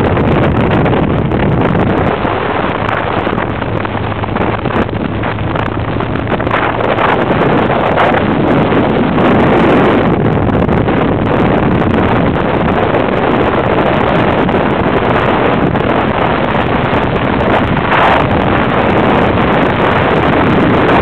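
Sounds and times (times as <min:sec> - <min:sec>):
motorcycle engine: 0:00.0 - 0:21.0
road noise: 0:00.0 - 0:21.0
wind rushing over microphone: 0:00.0 - 0:21.0.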